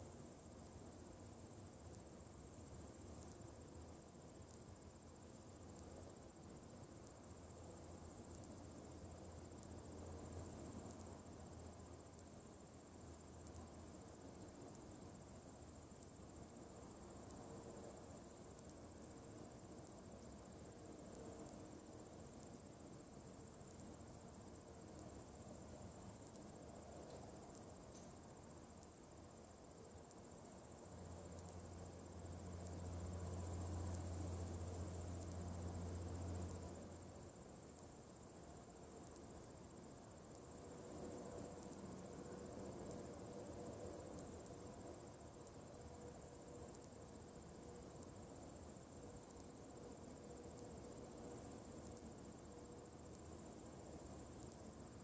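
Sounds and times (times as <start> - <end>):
faint low hum: 0.0 - 55.0
faint ticks: 0.1 - 55.0.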